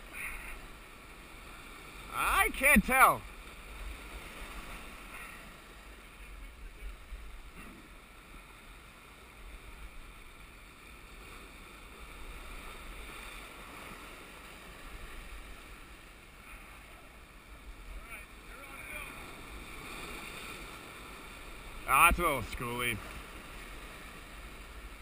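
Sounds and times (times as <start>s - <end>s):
waves breaking over rocks: 0.0s - 25.0s.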